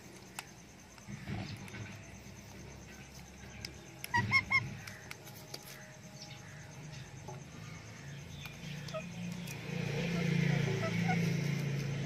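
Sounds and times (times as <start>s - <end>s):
faint chirps: 0.0s - 12.0s.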